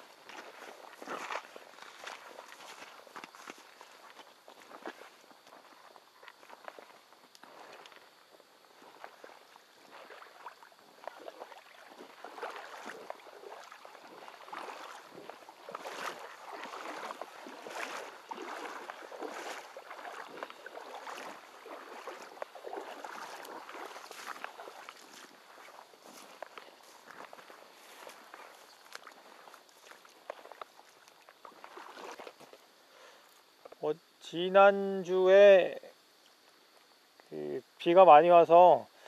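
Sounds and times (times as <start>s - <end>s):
footsteps splashing in shallow water: 0.0s - 39.0s.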